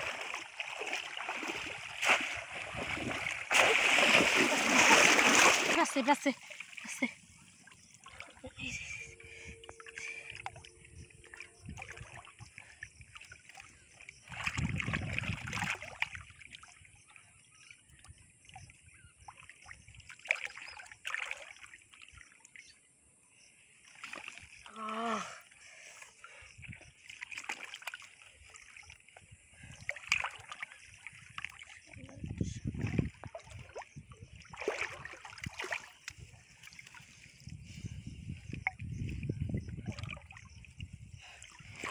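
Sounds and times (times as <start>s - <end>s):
muddy water splashing: 0.0s - 22.7s, 23.9s - 41.9s.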